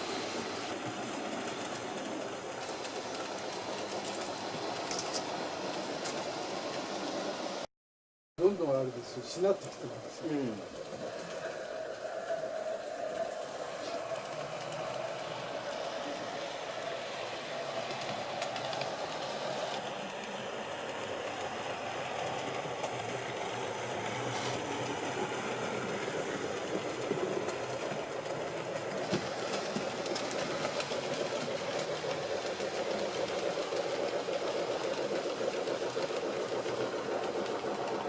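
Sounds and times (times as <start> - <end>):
model train running on track: 0.0 - 7.6, 8.4 - 38.0.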